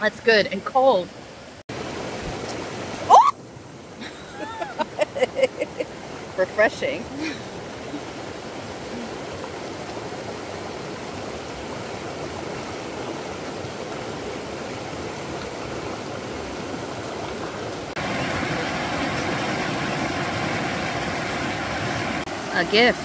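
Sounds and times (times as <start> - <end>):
stream rushing: 0.0 - 23.0.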